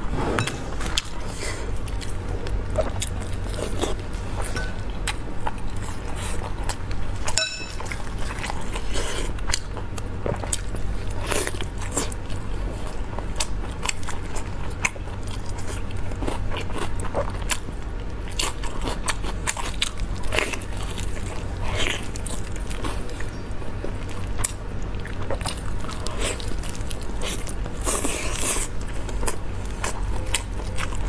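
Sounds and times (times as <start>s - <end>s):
steady low hum: 0.0s - 31.0s
biting and chewing meat: 0.5s - 31.0s.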